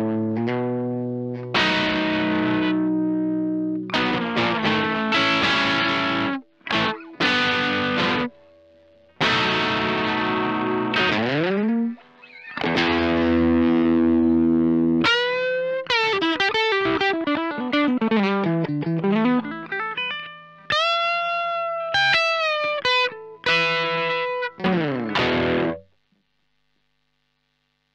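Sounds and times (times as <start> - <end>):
overdriven electric guitar: 0.0 - 25.9.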